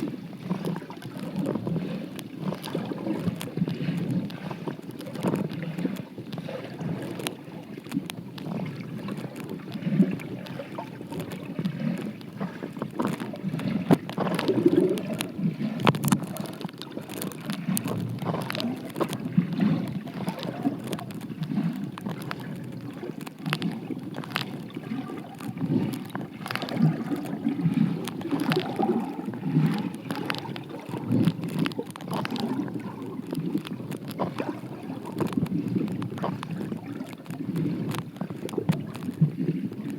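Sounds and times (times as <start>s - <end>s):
underwater stream churning: 0.0s - 39.9s
sharp clicks and ticks: 1.0s - 6.4s, 7.0s - 39.9s.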